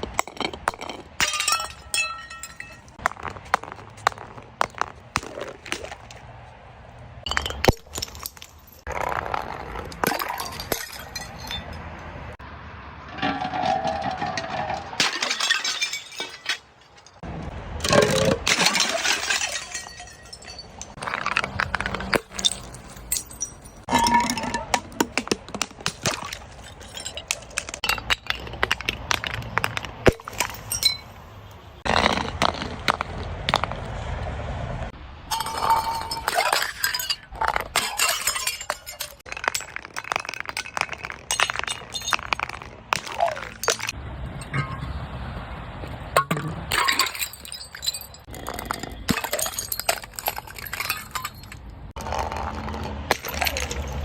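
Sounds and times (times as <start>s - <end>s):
glass bottles crushing and breaking: 0.0s - 6.1s, 7.2s - 11.9s, 13.1s - 17.2s, 17.8s - 31.2s, 35.3s - 44.9s, 46.2s - 54.0s.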